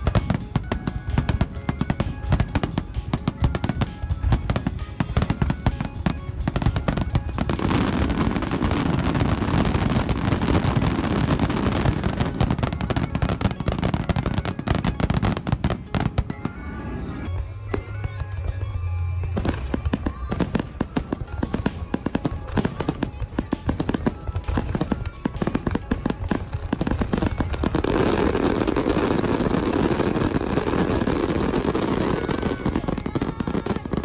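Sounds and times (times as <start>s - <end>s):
fireworks bursting: 0.0s - 18.4s, 19.2s - 34.0s
music playing: 0.0s - 34.0s.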